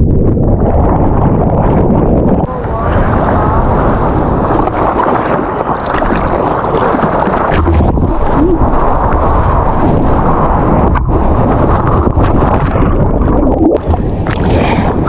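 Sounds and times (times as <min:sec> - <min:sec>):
seawater splashing: 0:02.5 - 0:15.0.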